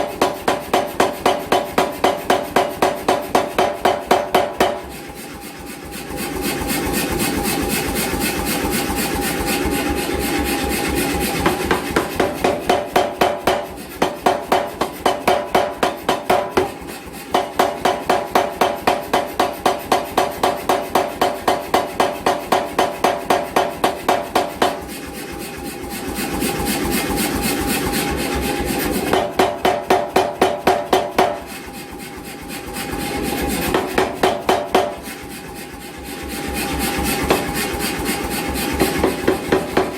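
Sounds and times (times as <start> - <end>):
rapid hammer blows: 0.0 - 39.9.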